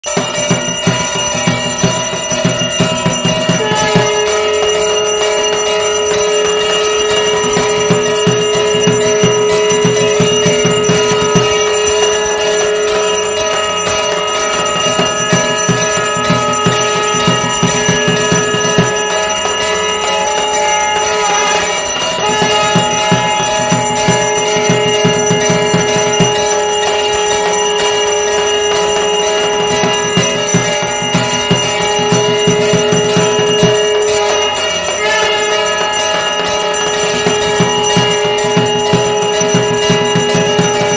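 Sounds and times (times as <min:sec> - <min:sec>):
rapid low beating: 0:00.0 - 0:40.9
temple bells ringing: 0:00.0 - 0:40.9.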